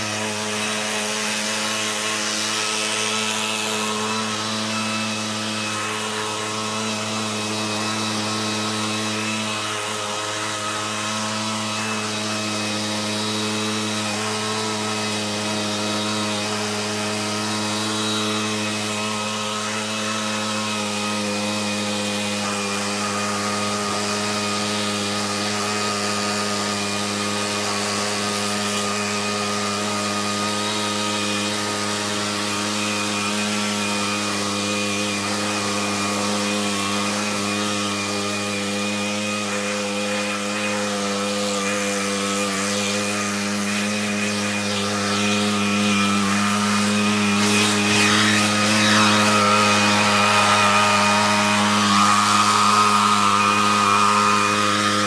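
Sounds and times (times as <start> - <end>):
leaf blower engine running: 0.0 - 55.0.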